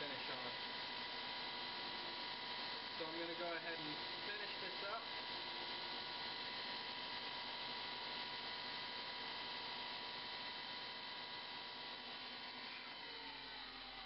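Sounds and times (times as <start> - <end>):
wood lathe humming: 0.0 - 14.0.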